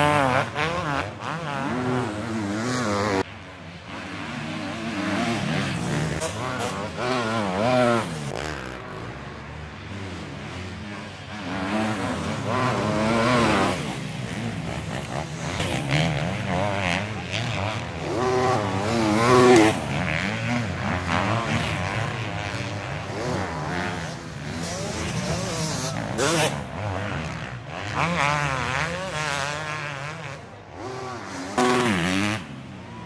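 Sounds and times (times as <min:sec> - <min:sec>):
motocross bikes racing past: 0:00.0 - 0:33.0.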